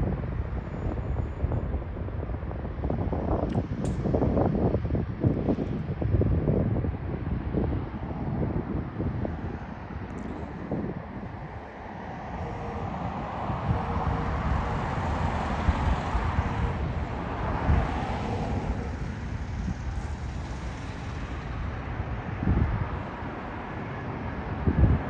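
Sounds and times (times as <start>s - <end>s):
jet airliner engine: 0.0s - 25.0s
wind buffeting microphone: 0.0s - 25.0s.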